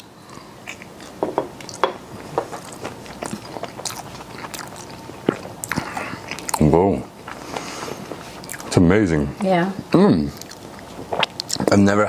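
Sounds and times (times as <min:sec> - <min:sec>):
person chewing food: 0:00.0 - 0:08.8, 0:10.3 - 0:11.8.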